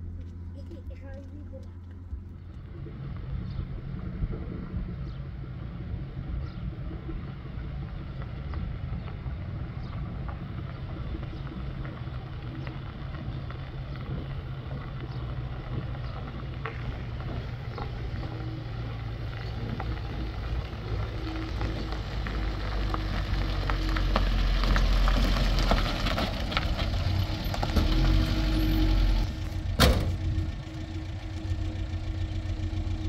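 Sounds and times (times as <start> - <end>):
car engine running: 0.0 - 33.0
tyres crackling on gravel: 0.0 - 33.0.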